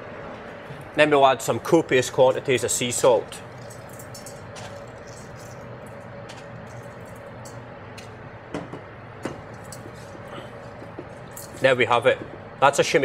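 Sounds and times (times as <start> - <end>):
kitchen background hum: 0.0 - 13.0.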